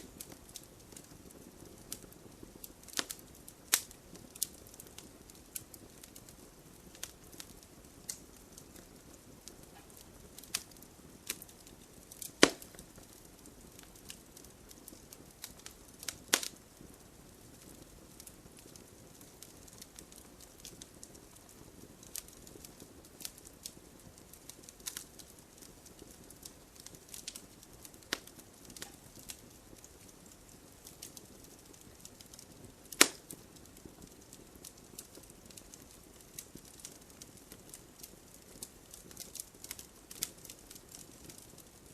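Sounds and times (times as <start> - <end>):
loud fire pops: 0.0 - 41.9
low hiss of burning: 0.0 - 41.9
wood fire crackling: 0.0 - 41.9.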